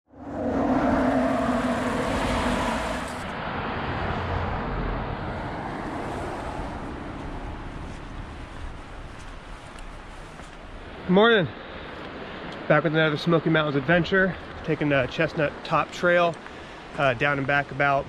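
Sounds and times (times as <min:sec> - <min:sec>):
car passing: 0:00.1 - 0:18.0
road noise with low rumble: 0:00.1 - 0:18.0.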